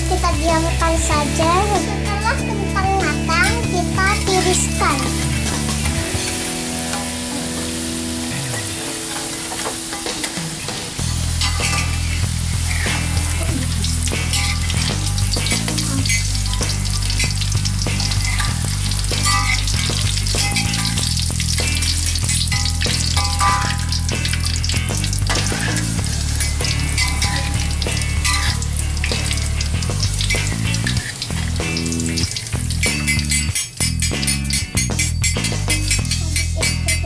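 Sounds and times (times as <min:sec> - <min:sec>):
music with stepping bass line: 0:00.0 - 0:07.2, 0:11.0 - 0:37.0
fries sizzling in hot oil: 0:00.0 - 0:37.0
metal ladle lifting fries: 0:04.3 - 0:37.0.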